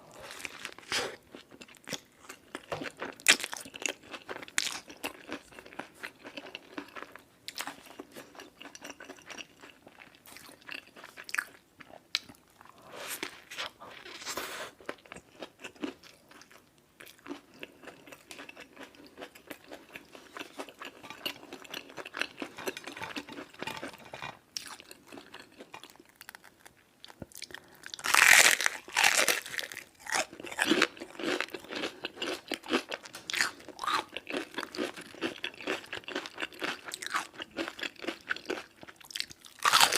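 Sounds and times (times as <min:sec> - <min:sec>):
crunchy food chewing: 0:00.1 - 0:39.9.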